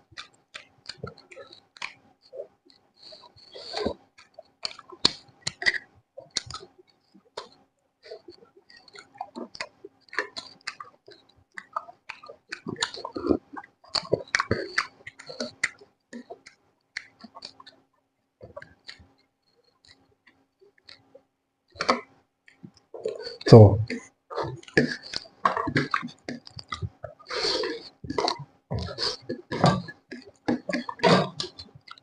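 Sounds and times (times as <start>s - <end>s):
person chewing with mouth clicks: 0.2s - 17.8s, 18.4s - 32.0s.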